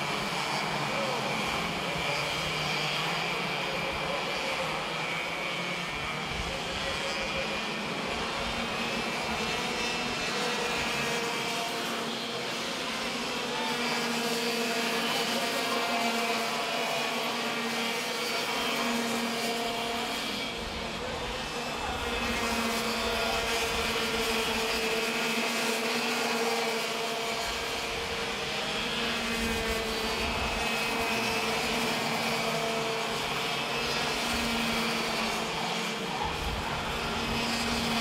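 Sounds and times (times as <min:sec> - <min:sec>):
kart engines racing: 0:00.0 - 0:38.0.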